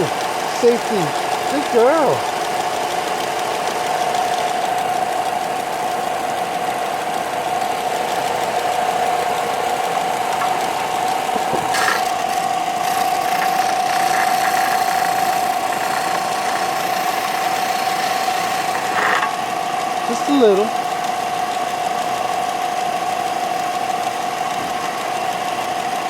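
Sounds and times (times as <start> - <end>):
motorized machine whining: 0.0 - 26.0.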